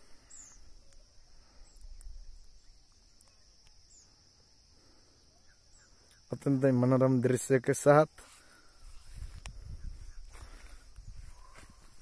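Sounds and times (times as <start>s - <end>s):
high-pitched insect drone: 0.2s - 12.0s.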